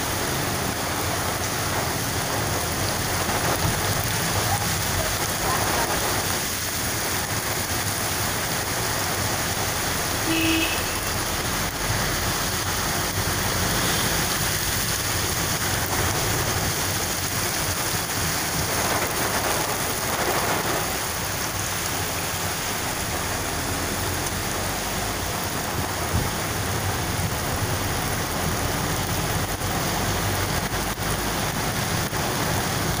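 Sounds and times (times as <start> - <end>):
heavy rain on road: 0.0 - 33.0.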